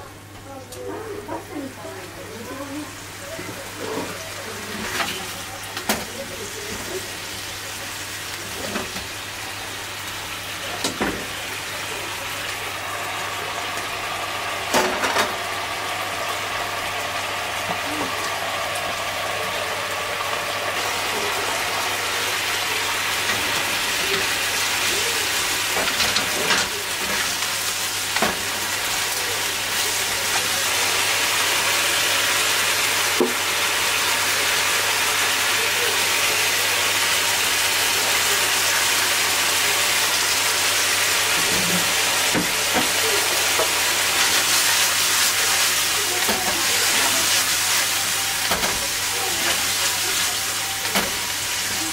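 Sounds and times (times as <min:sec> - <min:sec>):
broth simmering and sizzling: 0:00.0 - 0:51.9.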